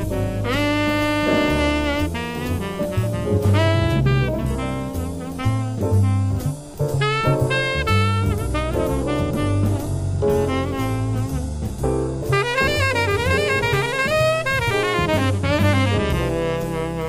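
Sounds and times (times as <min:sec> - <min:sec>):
bass: 0:00.0 - 0:17.0
drum kit: 0:00.0 - 0:17.0
tenor saxophone runs: 0:00.0 - 0:17.0.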